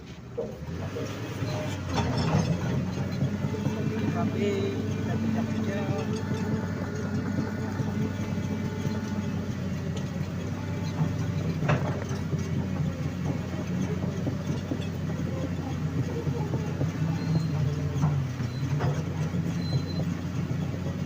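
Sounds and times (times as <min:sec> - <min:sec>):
excavator diesel engine running: 0:00.0 - 0:21.0
steel tracks on soil: 0:00.0 - 0:21.0.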